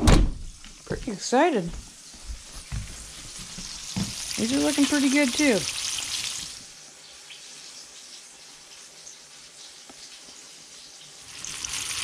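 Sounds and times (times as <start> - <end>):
fish frying in oil: 2.0 - 12.0.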